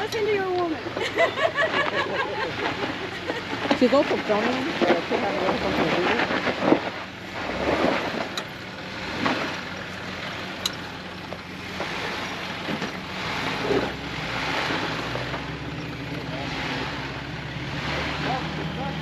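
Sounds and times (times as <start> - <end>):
vehicle engine at low revs: 0.0 - 19.0.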